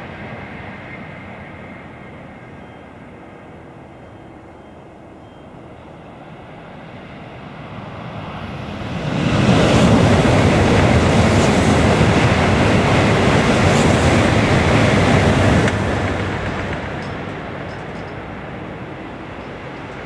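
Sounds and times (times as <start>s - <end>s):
high-speed train roaring past: 0.0s - 20.0s.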